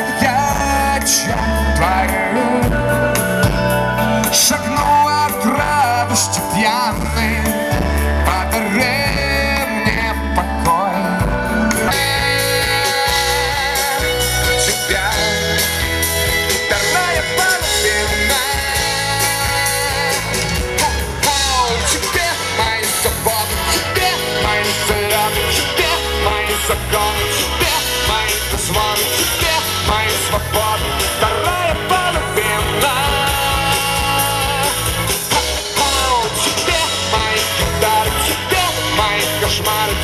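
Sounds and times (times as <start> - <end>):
man singing: 0.0 - 40.0
rock band playing: 0.0 - 40.0.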